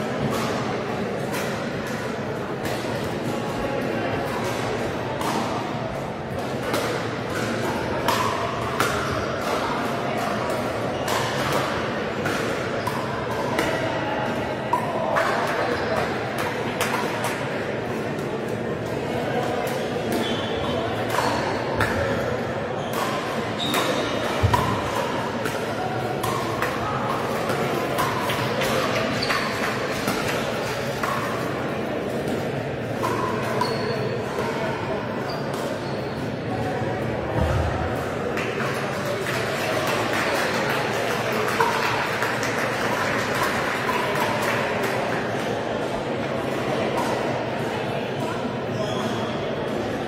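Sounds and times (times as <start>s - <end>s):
din of busy sports hall: 0.0s - 50.0s
murmur of voices: 0.0s - 50.0s.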